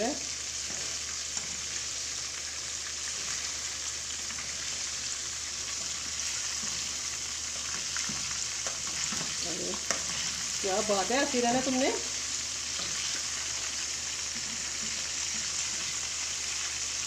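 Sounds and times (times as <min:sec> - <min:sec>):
chicken sizzling in hot fat: 0:00.0 - 0:17.0.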